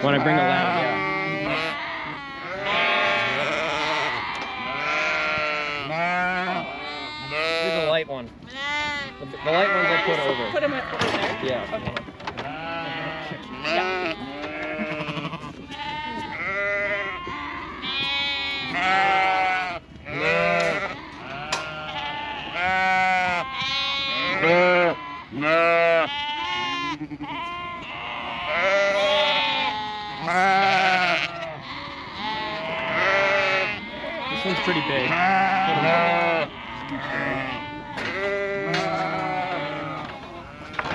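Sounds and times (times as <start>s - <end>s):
sheep bleating: 0.0s - 40.9s.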